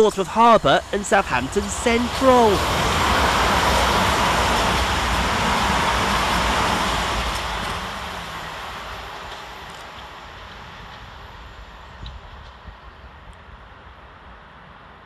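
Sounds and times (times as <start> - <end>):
train wheels rushing on rail: 0.0 - 15.0.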